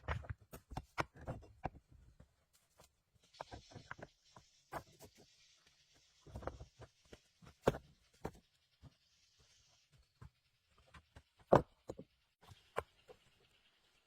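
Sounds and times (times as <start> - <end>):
faint steady hiss: 1.7 - 14.0.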